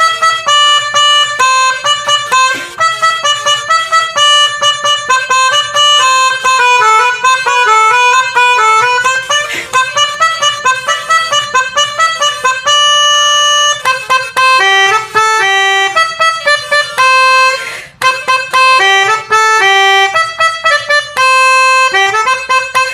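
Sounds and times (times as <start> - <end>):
melodic bus horn tune: 0.0 - 22.9.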